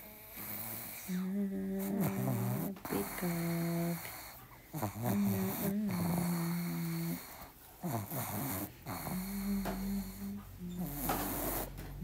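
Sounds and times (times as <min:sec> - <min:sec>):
dog snoring: 0:00.0 - 0:12.0.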